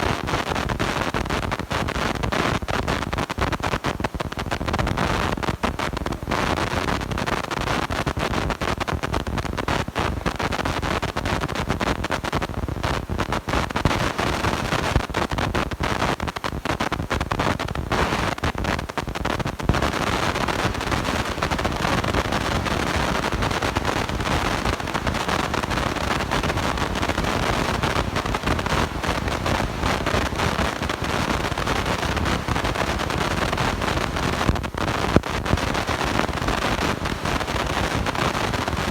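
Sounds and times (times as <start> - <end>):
crackling hiss from microphone: 0.0 - 38.9.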